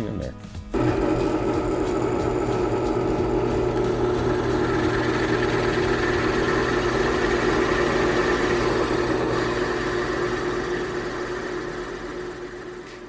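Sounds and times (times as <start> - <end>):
electric drill drilling: 0.8 - 13.0.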